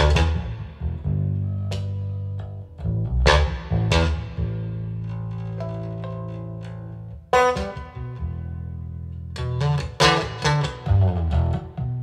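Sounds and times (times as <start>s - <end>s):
guitar music through hi-fi: 0.0s - 12.0s
plucked guitar notes: 0.0s - 12.0s.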